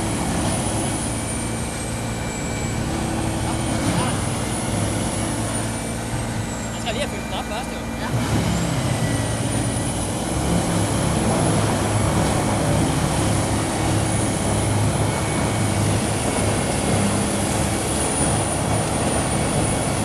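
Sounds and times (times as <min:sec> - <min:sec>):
high-pitched whine: 0:00.0 - 0:20.0
wood chipper engine drone: 0:00.0 - 0:20.0.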